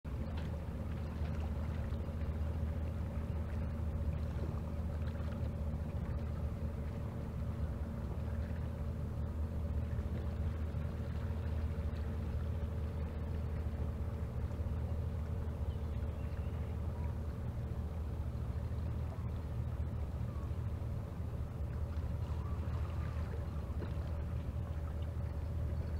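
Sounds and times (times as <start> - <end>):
boat engine drone underwater: 0.0 - 25.9.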